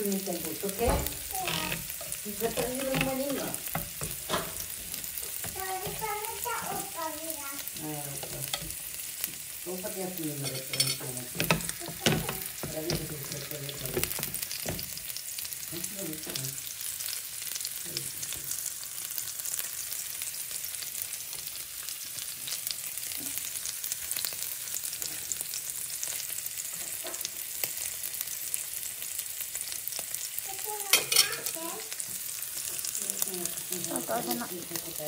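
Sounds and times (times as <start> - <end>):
steak sizzling in a pan: 0.0 - 35.0.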